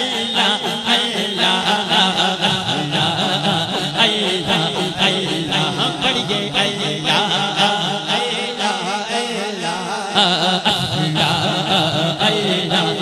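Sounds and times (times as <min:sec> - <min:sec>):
man chanting through microphone: 0:00.0 - 0:13.0.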